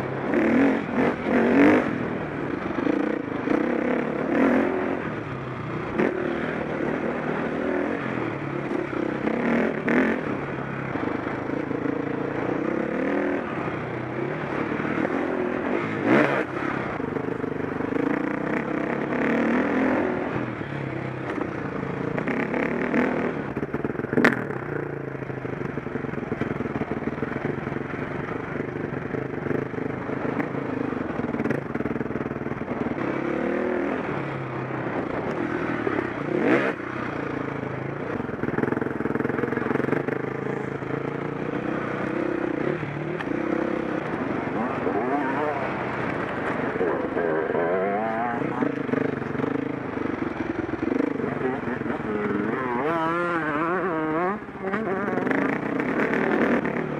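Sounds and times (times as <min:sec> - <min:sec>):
dirt bike engine revving: 0:00.0 - 0:25.0, 0:29.2 - 0:56.9.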